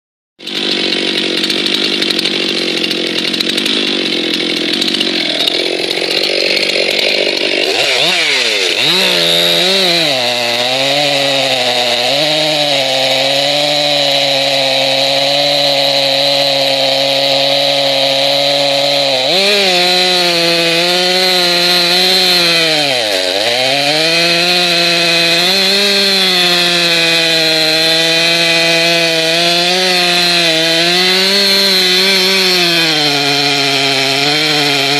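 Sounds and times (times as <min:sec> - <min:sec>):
chainsaw cutting log: 0:00.4 - 0:34.9.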